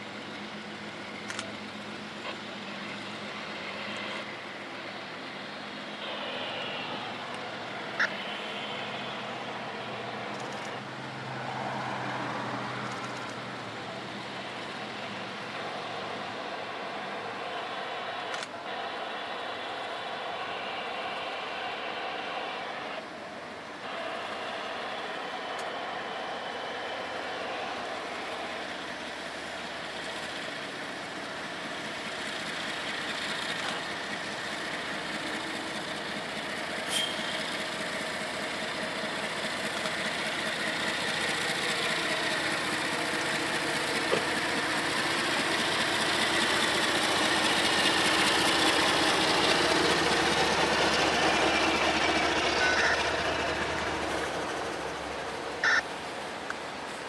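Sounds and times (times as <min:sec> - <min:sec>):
diesel locomotive engine rumble: 0:00.0 - 0:57.0
train wheels on rails: 0:00.0 - 0:57.0.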